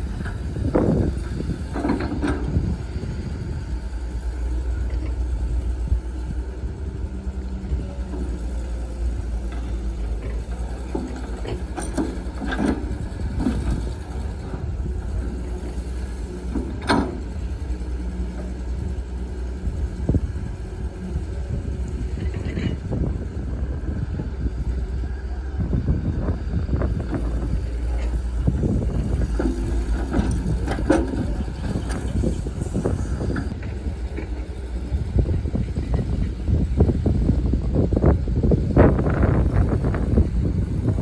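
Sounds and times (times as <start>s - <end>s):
diesel earthmoving machinery running: 0.0s - 41.0s.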